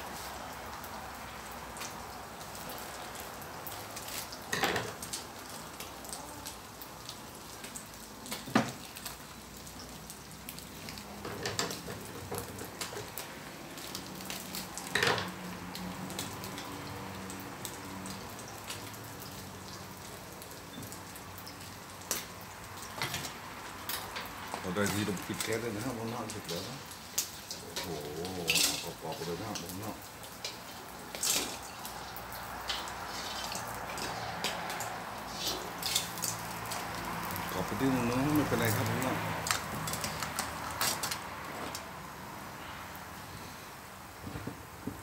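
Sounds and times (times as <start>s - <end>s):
shrimp deep-frying in oil: 0.0s - 45.0s.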